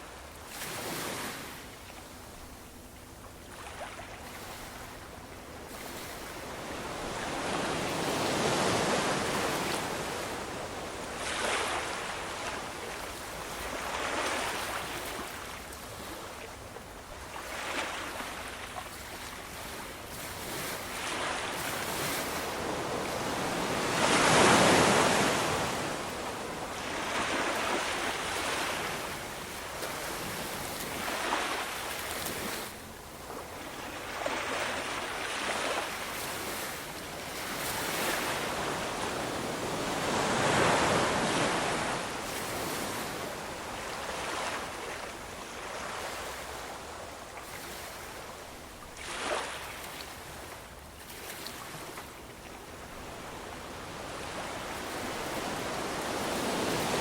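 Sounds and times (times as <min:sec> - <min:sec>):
ocean waves breaking: 0:05.7 - 0:16.4, 0:17.3 - 0:52.1, 0:52.8 - 0:57.0.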